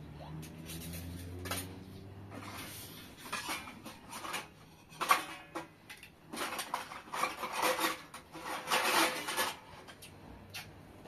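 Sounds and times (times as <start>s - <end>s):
household things rubbing and scraping: 0.3s - 10.2s.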